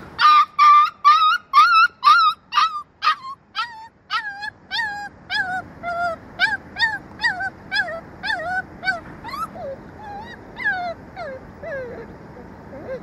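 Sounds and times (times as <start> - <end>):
dog yipping: 0.2 - 13.0.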